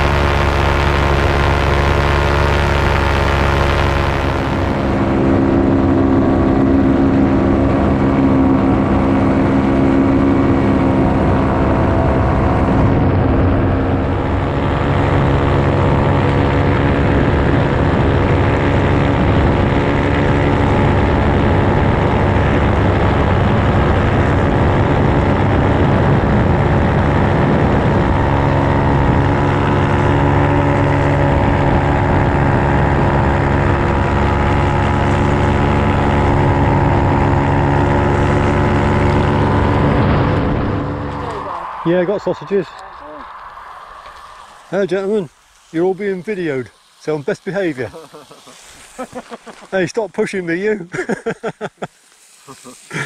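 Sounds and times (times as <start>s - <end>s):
paramotor engine and propeller: 0.0s - 41.6s, 42.4s - 53.0s.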